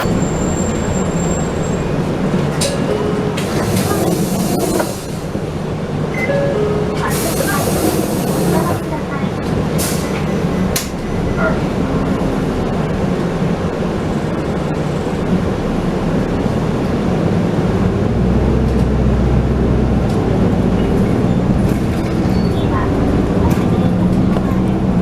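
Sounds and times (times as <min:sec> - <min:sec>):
bus engine rumble: 0:00.0 - 0:25.0
road noise: 0:00.0 - 0:25.0.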